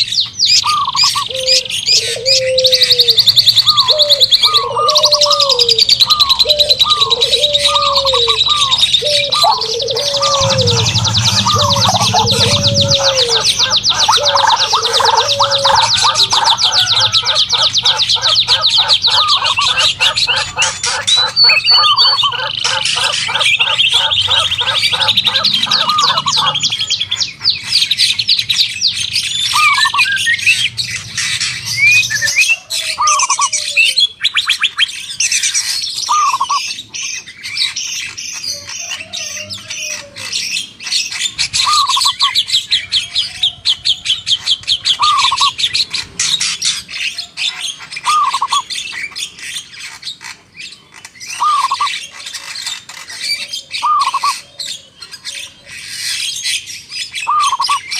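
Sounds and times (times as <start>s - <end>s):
songbirds trilling and chattering: 0.0s - 57.9s.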